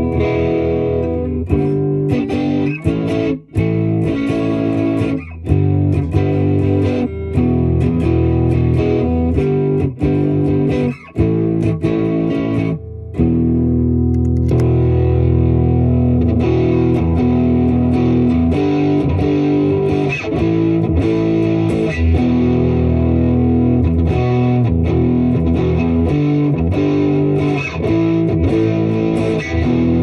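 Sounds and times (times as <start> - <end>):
electric guitar chords: 0.0 - 30.0.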